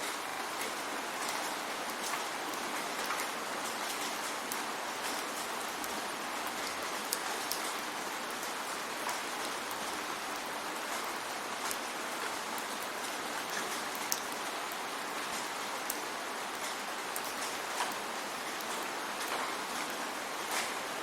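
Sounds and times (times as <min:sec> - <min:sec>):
raindrops ticking on a surface: 0:00.0 - 0:21.0
steady rain hiss: 0:00.0 - 0:21.0.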